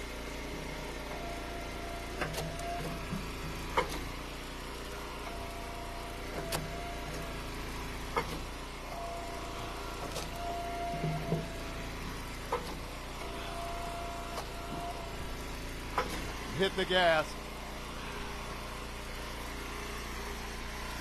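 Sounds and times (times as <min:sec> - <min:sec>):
hydraulic whine: 0:00.0 - 0:21.0
wood splitter engine running: 0:00.0 - 0:21.0.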